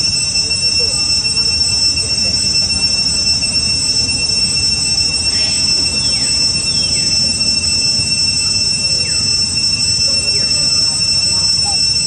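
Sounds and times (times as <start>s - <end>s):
shrill insect drone: 0.0s - 12.0s.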